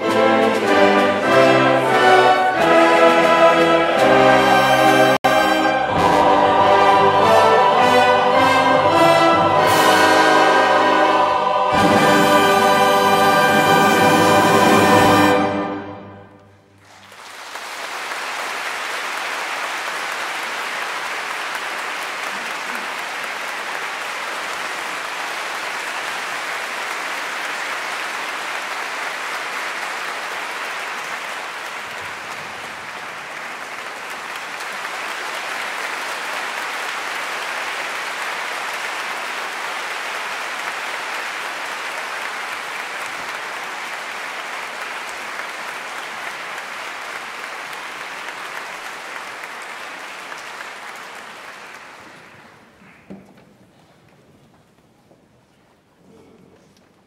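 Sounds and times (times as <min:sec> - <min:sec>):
large audience applauding: 0:00.0 - 0:15.7, 0:16.4 - 0:53.1.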